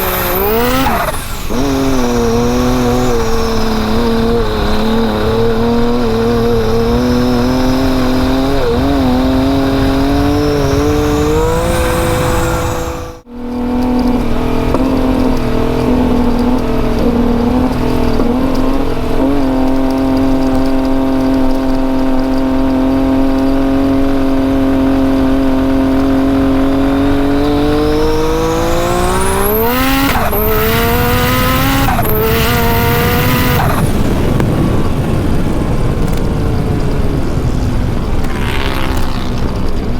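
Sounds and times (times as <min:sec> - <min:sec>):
engine running: 0:00.0 - 0:39.9
high turbo whine: 0:00.0 - 0:39.9.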